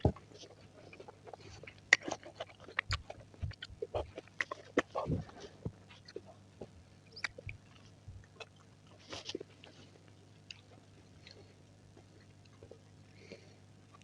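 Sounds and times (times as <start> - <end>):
chewing fruit: 0.0 - 14.0.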